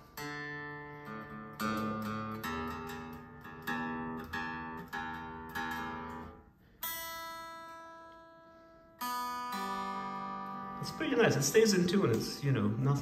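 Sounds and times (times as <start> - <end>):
unplugged electric guitar plucked: 0.0 - 13.0.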